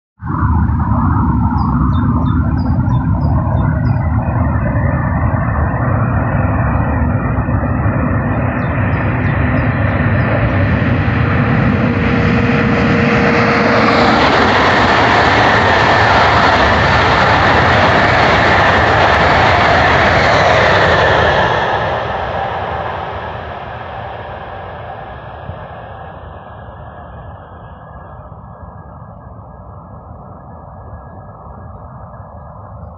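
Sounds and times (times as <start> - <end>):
steady high whine: 0.2 - 32.9
high-speed train passing: 0.5 - 29.0.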